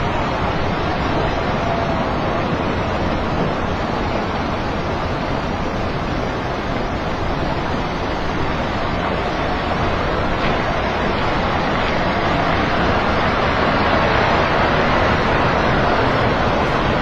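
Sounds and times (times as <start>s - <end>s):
landslide rumble: 0.0s - 17.0s.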